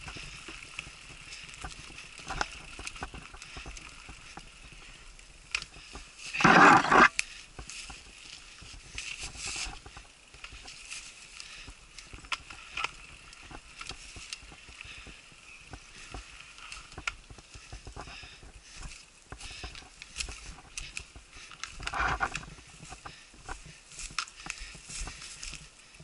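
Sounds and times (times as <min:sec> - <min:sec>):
bike clicking and rattling: 0:00.0 - 0:26.0
bike tyres on dirt and leaves: 0:00.0 - 0:26.0.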